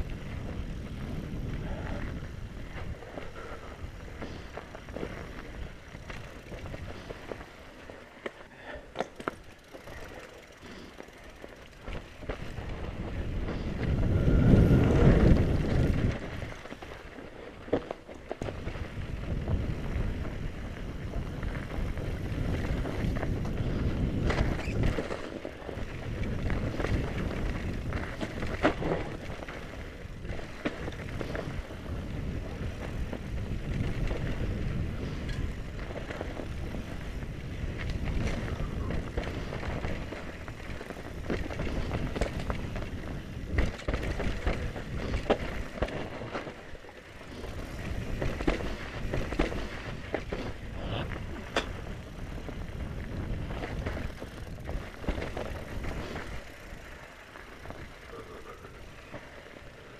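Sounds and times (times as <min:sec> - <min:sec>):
wind on microphone: 0:00.0 - 0:07.3, 0:12.3 - 0:16.6, 0:18.5 - 0:46.6, 0:47.2 - 0:56.8
bike knocking and rattling: 0:00.0 - 0:59.9
bike tyres rushing over snow: 0:00.0 - 0:59.9.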